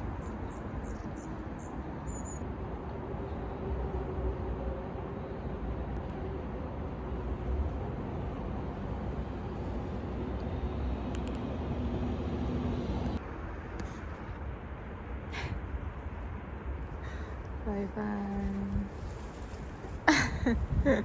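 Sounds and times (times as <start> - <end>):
faint engine hum: 0.0 - 21.0
traffic rumble: 0.0 - 21.0.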